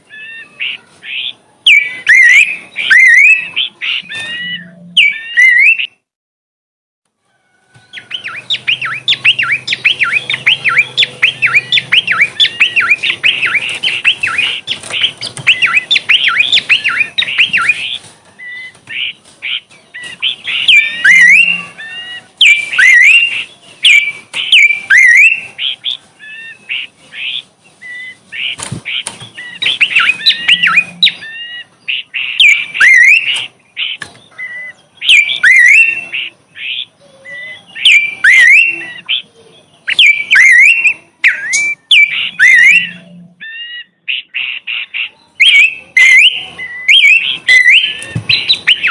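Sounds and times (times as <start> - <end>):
songbird singing: 0.0 - 6.0, 7.2 - 48.9.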